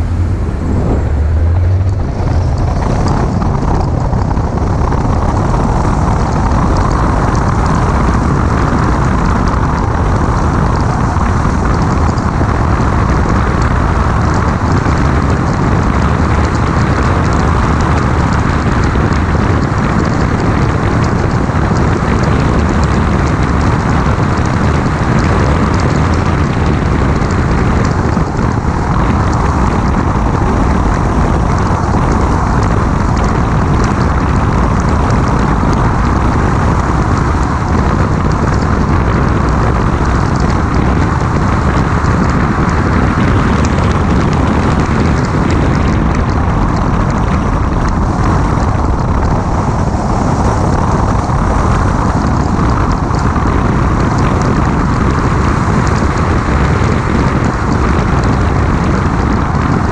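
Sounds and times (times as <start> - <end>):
low wind buffeting on microphone: 0.0 - 59.9
wind and road noise: 0.0 - 59.9.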